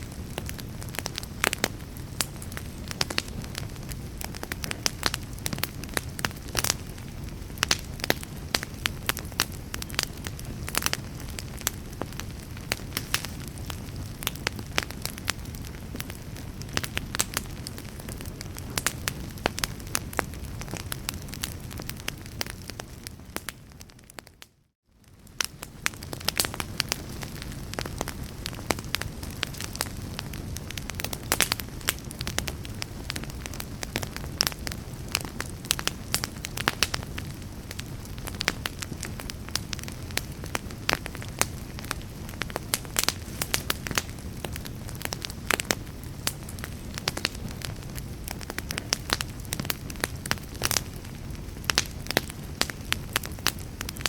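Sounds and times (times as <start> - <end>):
low rumble of flame: 0.0 - 54.0
fireplace wood crackling: 0.1 - 24.2, 25.0 - 54.0.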